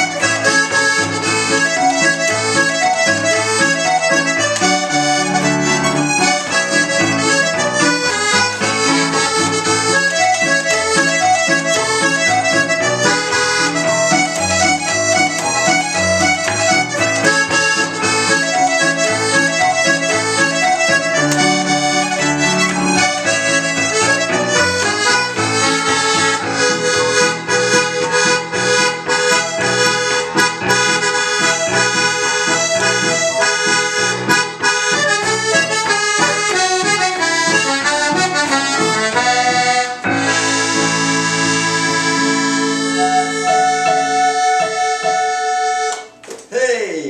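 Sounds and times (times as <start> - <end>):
button accordion playing a reel: 0.0 - 46.2
electronic keyboard accompaniment: 0.0 - 46.3.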